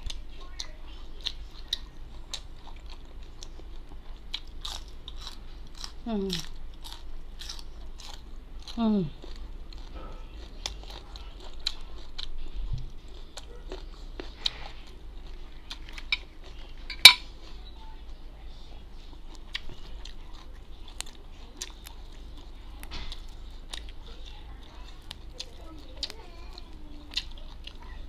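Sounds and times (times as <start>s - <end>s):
person chewing: 0.0s - 18.2s, 18.9s - 28.0s.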